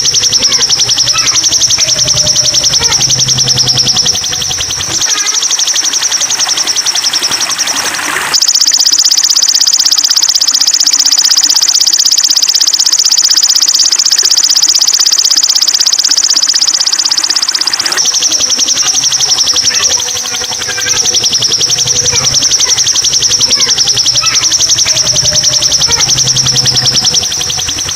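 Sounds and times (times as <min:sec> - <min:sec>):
high buzzy bird trill: 0:00.0 - 0:27.9.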